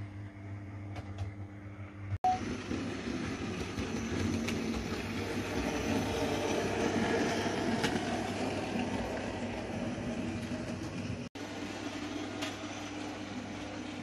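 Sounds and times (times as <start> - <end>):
motor hum: 0.0 - 14.0
model train wheels rumbling: 2.4 - 14.0.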